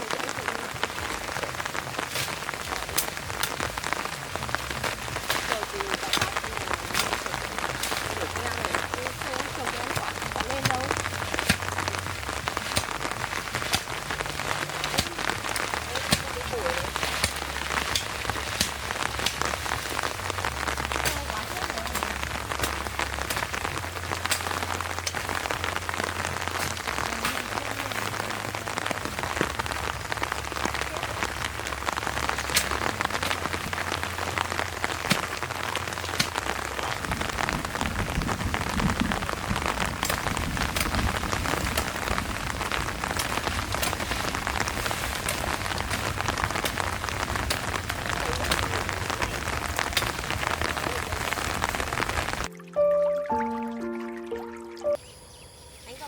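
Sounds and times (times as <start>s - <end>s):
steady rain falling: 0.0s - 52.6s
raindrops ticking: 0.0s - 55.0s.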